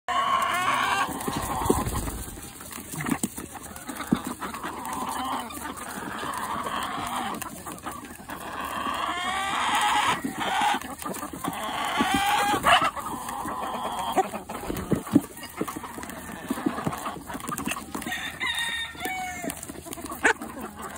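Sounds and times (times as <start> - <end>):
beaks pecking at apple: 0.1 - 20.9
chickens clucking and squawking: 0.1 - 20.9.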